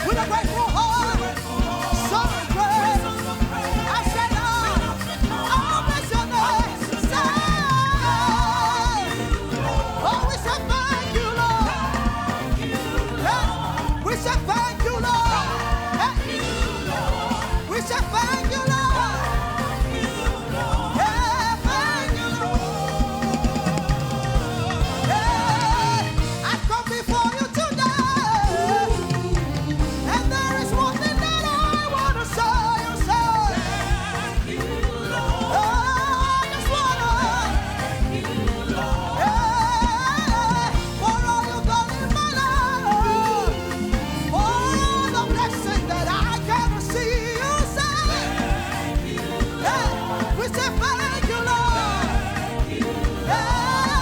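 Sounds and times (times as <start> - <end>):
live band with drum kit: 0.0 - 54.0
singers singing gospel: 0.0 - 54.0.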